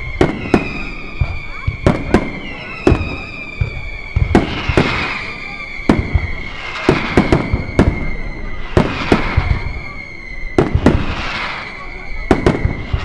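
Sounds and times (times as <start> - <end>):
fireworks bursting with sharp bangs: 0.0 - 13.0
fireworks crackling hiss: 0.0 - 13.0
high whistle: 0.0 - 13.0.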